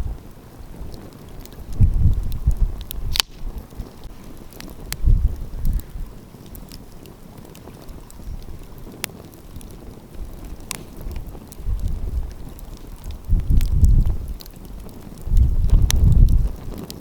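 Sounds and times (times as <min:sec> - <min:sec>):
wind buffeting microphone: 0:00.0 - 0:17.0
wood fire crackling: 0:00.0 - 0:17.0.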